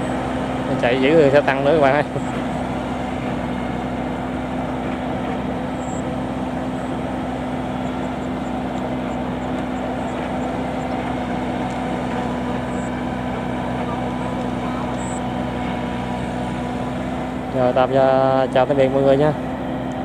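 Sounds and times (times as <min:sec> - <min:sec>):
combine harvester engine humming: 0:00.0 - 0:20.0.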